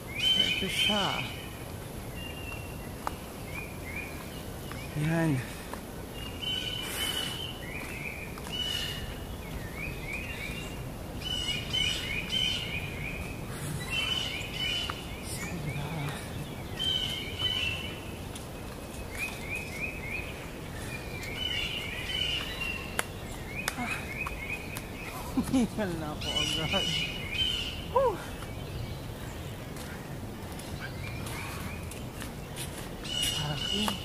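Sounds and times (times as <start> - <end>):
forest birds chirping: 0.0 - 34.0
outdoor background hiss: 0.0 - 34.0.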